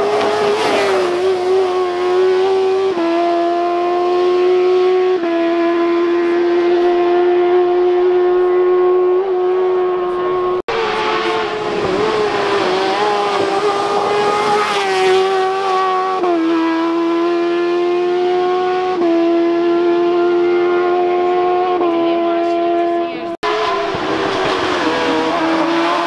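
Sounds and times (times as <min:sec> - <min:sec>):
race buggy engine at high revs: 0:00.0 - 0:26.0.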